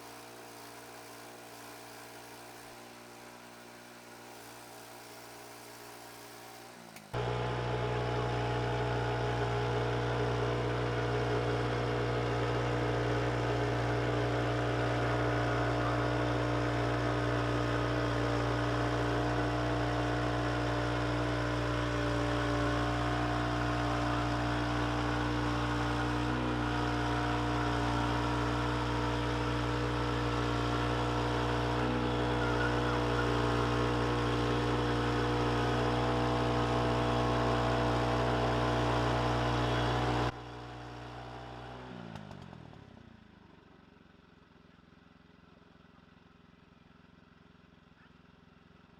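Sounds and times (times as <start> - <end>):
engine humming steadily: 6.7 - 48.9.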